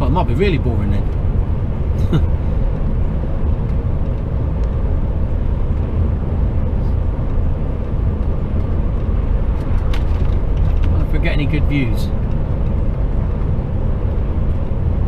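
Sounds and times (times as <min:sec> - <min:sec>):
lorry diesel engine rumble: 0:00.0 - 0:15.0
road noise: 0:00.0 - 0:15.0.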